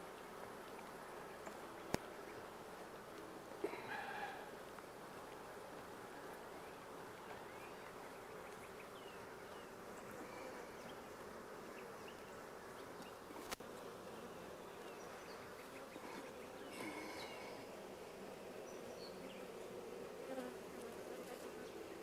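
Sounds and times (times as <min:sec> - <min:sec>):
bees buzzing: 0:00.3 - 0:22.0.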